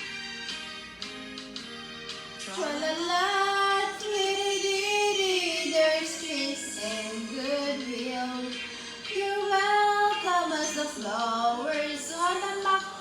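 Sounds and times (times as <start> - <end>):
woman singing wordless melody: 2.4 - 13.0.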